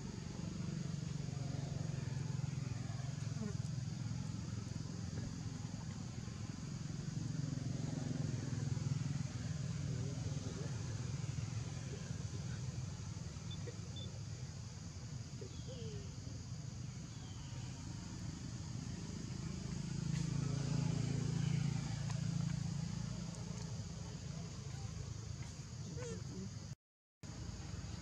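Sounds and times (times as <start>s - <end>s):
vehicle engine hum: 0.0s - 28.0s.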